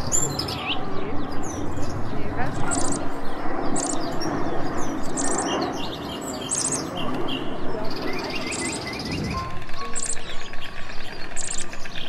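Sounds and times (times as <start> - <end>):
background hubbub: 0.0 - 12.0
songbird trilling: 0.0 - 12.0
songbirds chirping: 0.0 - 12.0.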